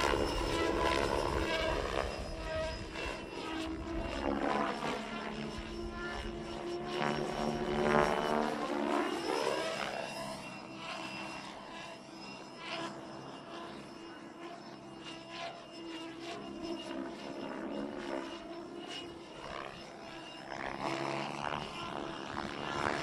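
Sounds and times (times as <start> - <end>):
model helicopter rotor whine: 0.0 - 23.0.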